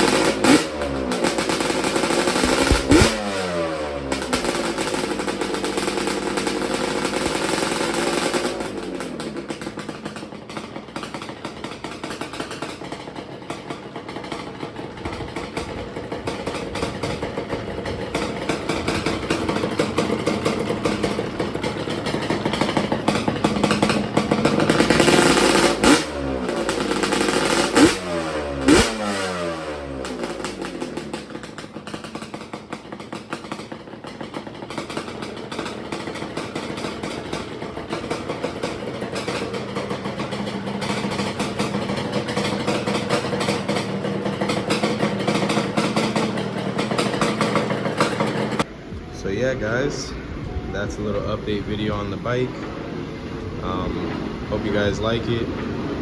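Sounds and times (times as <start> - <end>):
two-stroke engine revving and idling: 0.0 - 56.0.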